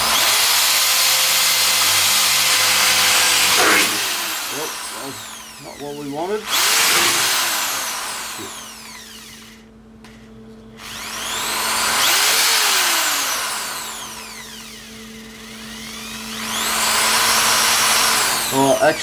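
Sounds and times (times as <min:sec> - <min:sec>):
drill boring through sheet steel: 0:00.0 - 0:09.6, 0:10.8 - 0:19.0.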